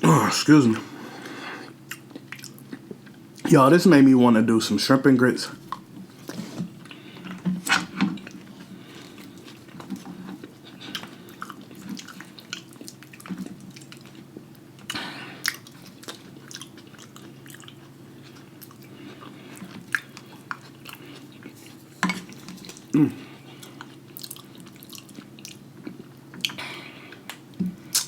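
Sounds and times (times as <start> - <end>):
person chewing food: 0.9 - 3.4, 5.7 - 28.0.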